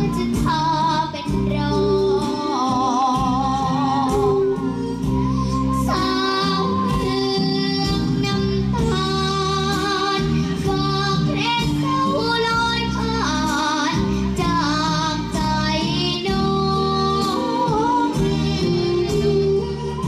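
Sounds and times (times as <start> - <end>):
backing track: 0.0 - 20.0
girl singing into microphone: 0.0 - 20.0.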